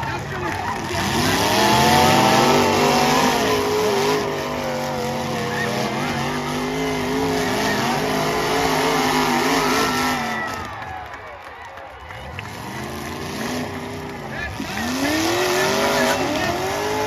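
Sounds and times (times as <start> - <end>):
car engines revving hard: 0.0 - 17.0.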